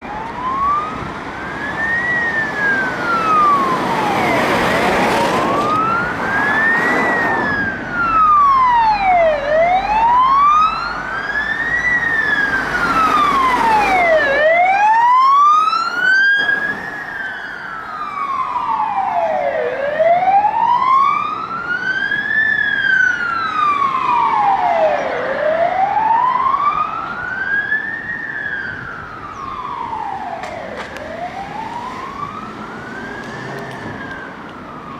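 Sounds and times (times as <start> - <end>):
emergency siren wailing: 0.0 - 34.9
second fainter siren: 0.0 - 34.9
traffic noise: 0.0 - 34.9.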